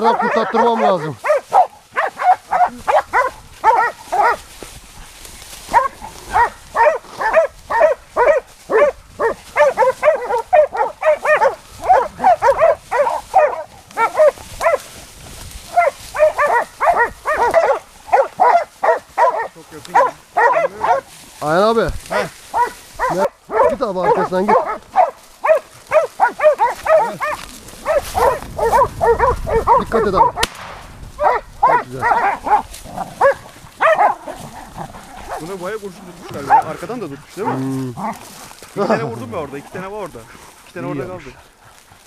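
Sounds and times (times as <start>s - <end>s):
hounds barking rapidly: 0.0s - 4.6s, 5.2s - 30.5s, 31.2s - 41.4s.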